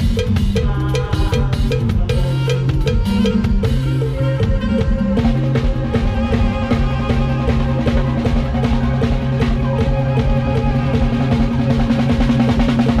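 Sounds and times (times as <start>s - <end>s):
bass and keyboard notes: 0.0s - 13.0s
drum kit beat: 0.0s - 13.0s
folk-pop band music: 0.0s - 13.0s.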